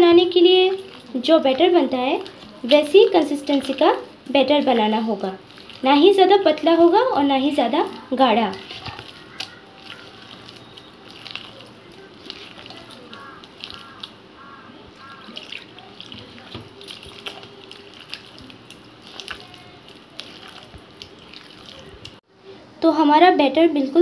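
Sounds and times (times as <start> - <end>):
hand squelching through wet batter: 0.2 - 22.2.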